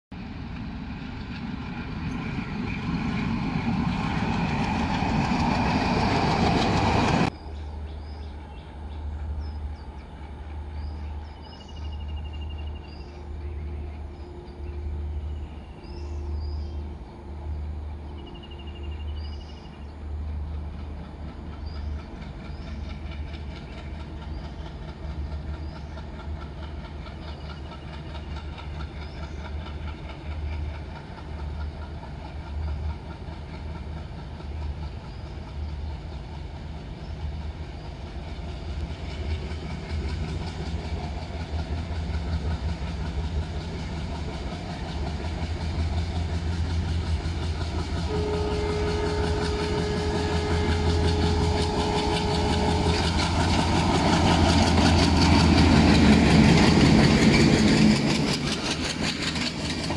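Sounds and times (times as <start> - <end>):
train running loudly: 0.1 - 59.9
distant diesel engine throbbing: 0.3 - 59.9.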